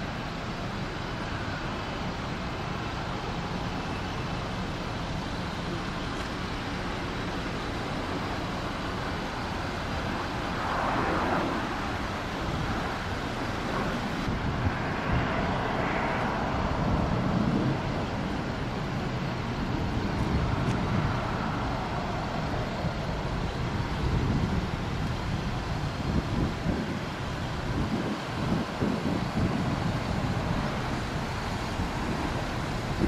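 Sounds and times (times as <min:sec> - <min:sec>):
vehicle traffic rumble: 0:00.0 - 0:33.0.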